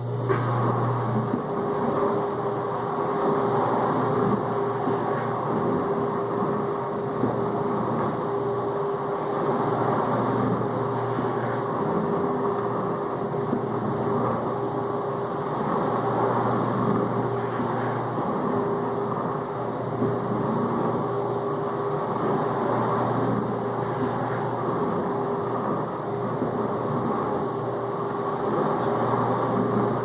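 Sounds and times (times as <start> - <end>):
dishwasher pump hum: 0.0 - 30.0.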